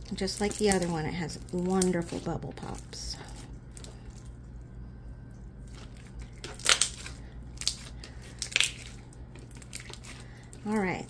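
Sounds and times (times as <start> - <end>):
slime squishing: 0.0 - 4.6, 5.2 - 11.0.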